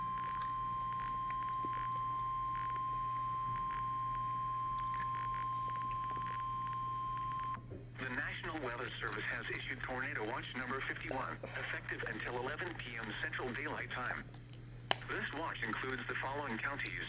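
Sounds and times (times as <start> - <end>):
faint static crackles: 0.0 - 17.0
radio hum: 0.0 - 17.0.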